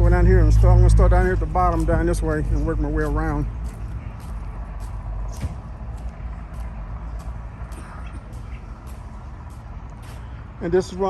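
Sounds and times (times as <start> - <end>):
footsteps on pavement: 0.0 - 11.0
low outdoor rumble: 0.0 - 11.0.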